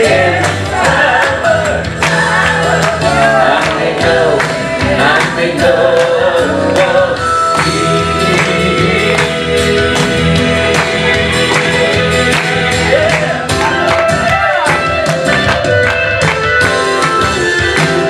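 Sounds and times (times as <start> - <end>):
gospel band playing: 0.0 - 18.0.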